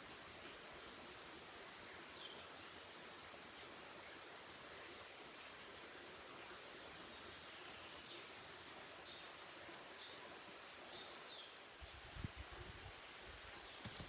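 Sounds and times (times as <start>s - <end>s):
steady forest hiss: 0.0s - 14.0s.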